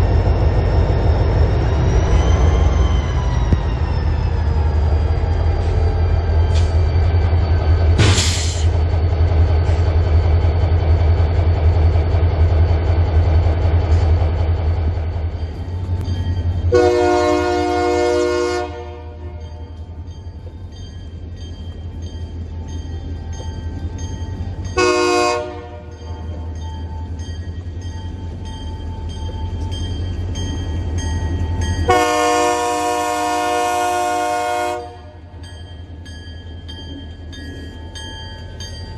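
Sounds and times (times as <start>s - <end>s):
diesel locomotive rumble: 0.0s - 38.9s.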